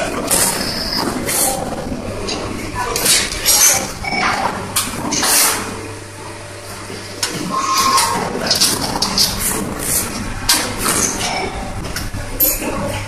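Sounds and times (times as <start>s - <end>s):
press machine humming: 0.0s - 13.0s.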